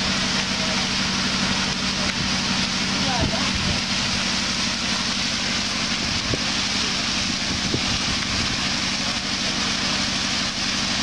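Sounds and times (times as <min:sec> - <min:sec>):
fountain water jets: 0:00.0 - 0:11.0
waterfall splashing into pool: 0:00.0 - 0:11.0.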